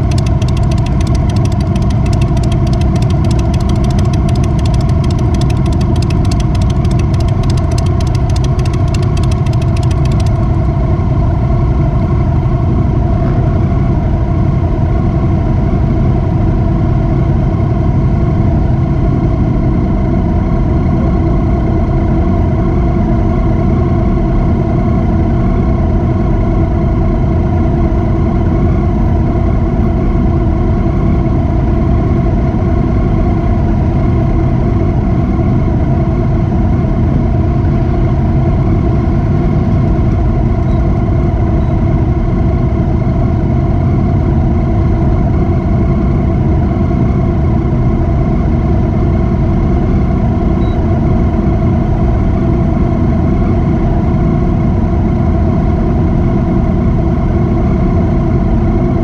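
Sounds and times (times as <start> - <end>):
motorcycle engine and wind noise: 0.0 - 59.0.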